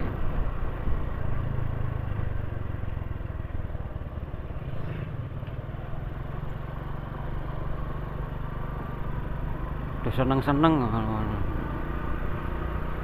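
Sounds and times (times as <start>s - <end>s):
motorcycle engine hum: 0.0s - 13.0s.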